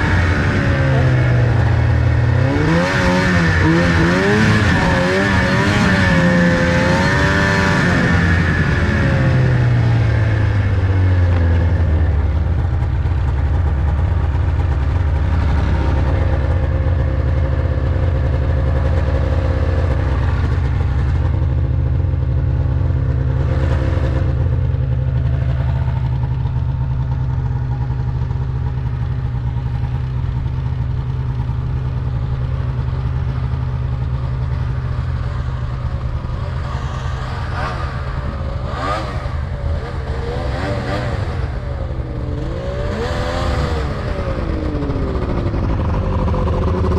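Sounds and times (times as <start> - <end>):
vehicle engine running: 0.0 - 46.9.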